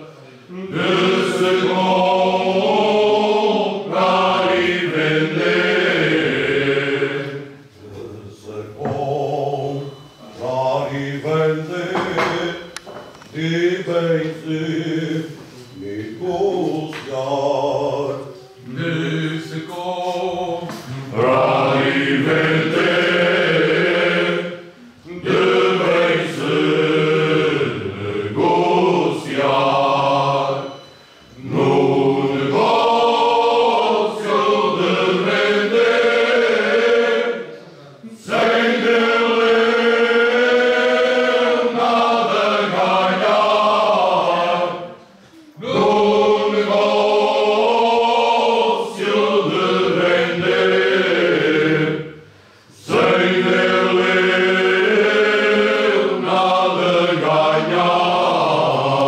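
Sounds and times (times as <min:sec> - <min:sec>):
men's group singing unaccompanied: 0:00.0 - 0:59.0.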